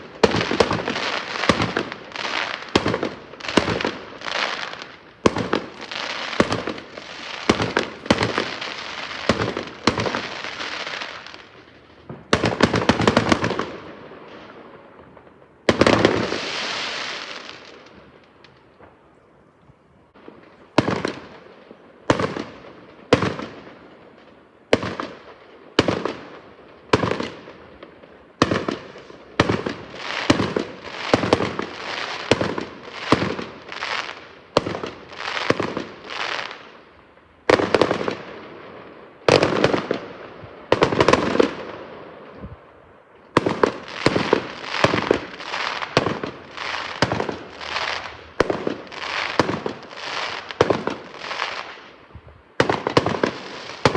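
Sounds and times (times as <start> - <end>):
fireworks exploding: 0.0 - 19.3, 20.0 - 53.9.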